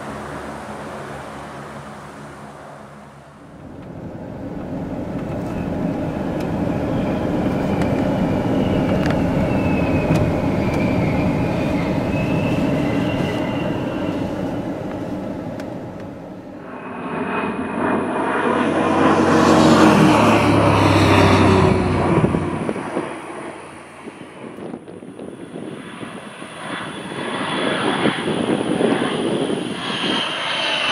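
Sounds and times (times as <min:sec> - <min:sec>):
high engine whine: 0:00.0 - 0:30.9
military aircraft passing overhead: 0:00.0 - 0:30.9.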